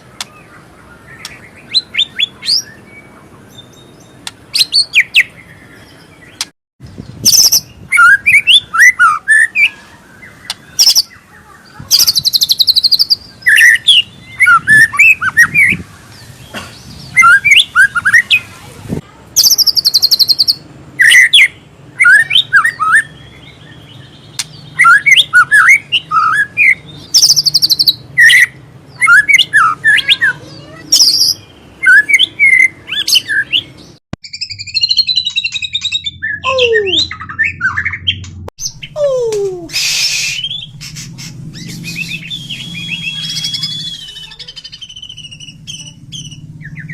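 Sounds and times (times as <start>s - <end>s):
bird singing whistles and trills: 7.0s - 15.8s, 16.8s - 18.4s, 19.4s - 46.9s.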